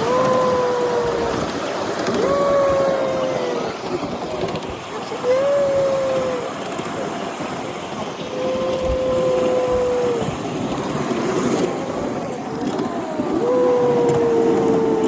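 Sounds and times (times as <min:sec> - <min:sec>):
toy train rumbling: 0:00.0 - 0:15.0.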